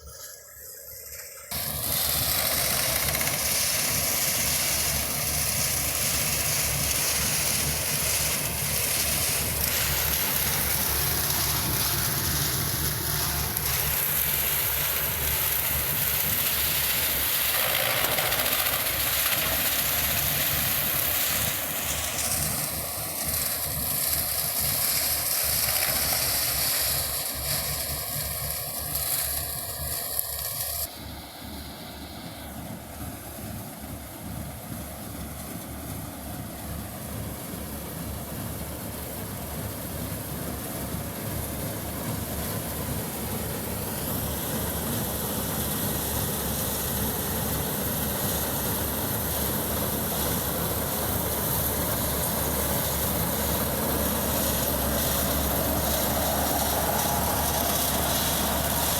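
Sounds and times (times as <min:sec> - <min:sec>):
combine harvester running: 0:00.0 - 0:58.9.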